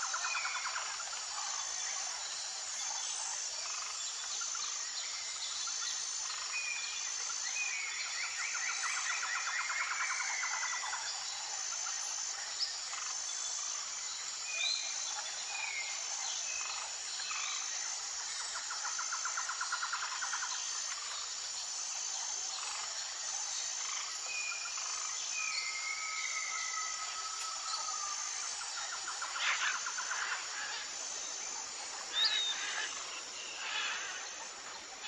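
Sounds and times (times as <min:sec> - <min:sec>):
chorus of insects: 0:00.0 - 0:35.0
high pulsing insect call: 0:00.0 - 0:35.0.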